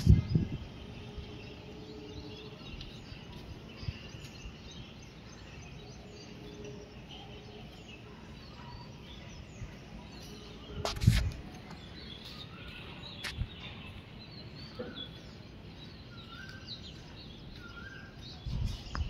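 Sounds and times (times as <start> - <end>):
birds chirping faintly: 0.0 - 19.0
outdoor background noise: 0.0 - 19.0.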